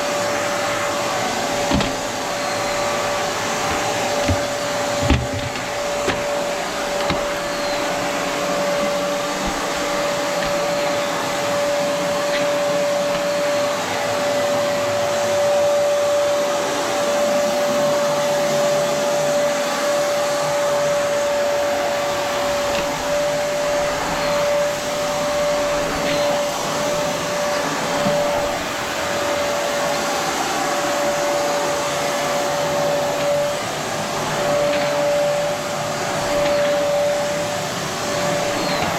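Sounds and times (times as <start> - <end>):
vacuum cleaner whine: 0.0 - 38.9.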